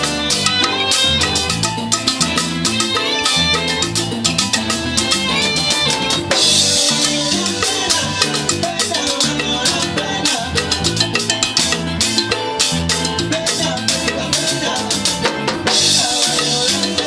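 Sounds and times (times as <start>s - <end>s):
salsa band playing: 0.0s - 17.0s.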